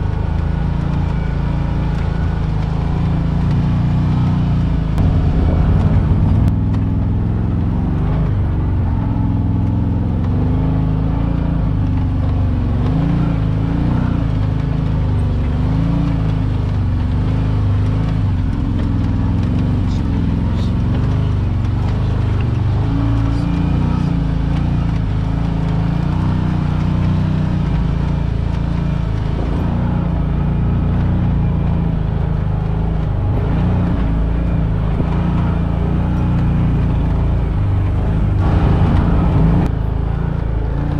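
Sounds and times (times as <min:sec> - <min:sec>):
utv engine running: 0:00.0 - 0:40.9.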